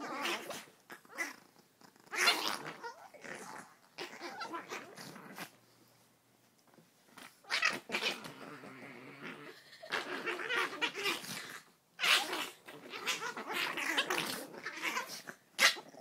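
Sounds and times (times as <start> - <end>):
dogs growling: 0.0 - 5.6, 7.4 - 16.0.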